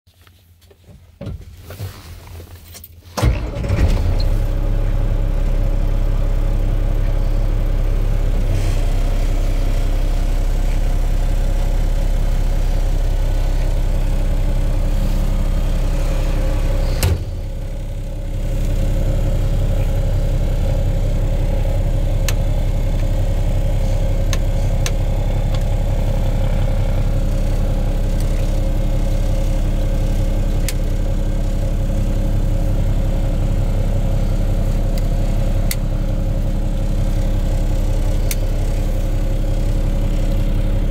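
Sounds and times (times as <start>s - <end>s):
truck engine starting and idling: 3.0s - 40.9s.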